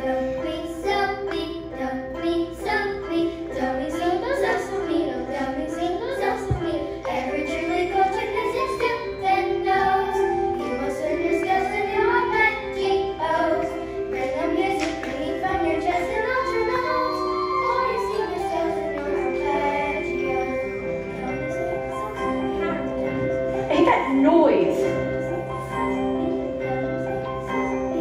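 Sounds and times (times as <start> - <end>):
children singing: 0.0 - 23.7, 24.8 - 28.0
instrumental accompaniment: 0.0 - 28.0.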